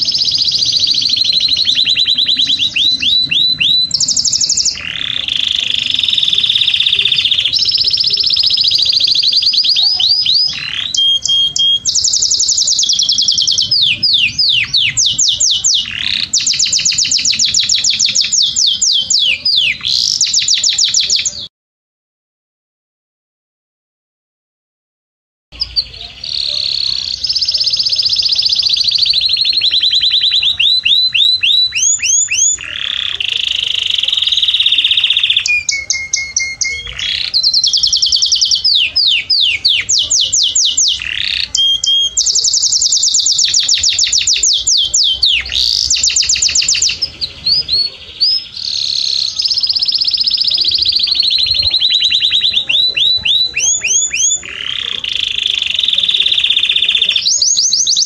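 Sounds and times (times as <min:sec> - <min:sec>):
canary singing: 0:00.0 - 0:21.5, 0:25.6 - 0:58.0.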